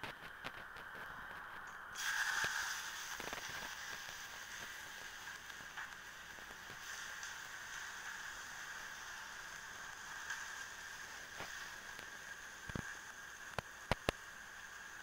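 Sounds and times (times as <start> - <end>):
gas stove burner hissing: 0.0 - 15.0.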